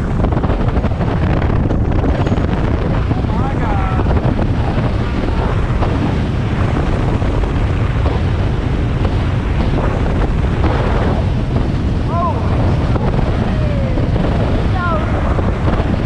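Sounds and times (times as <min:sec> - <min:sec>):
water and boat noise: 0:00.0 - 0:16.0
wind buffeting microphone: 0:00.0 - 0:16.0.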